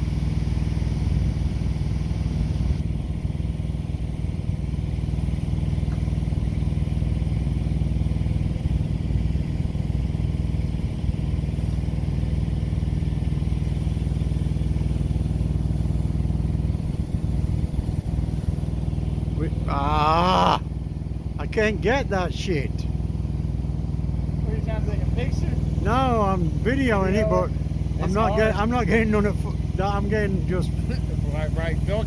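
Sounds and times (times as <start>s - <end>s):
low engine hum: 0.0s - 32.0s.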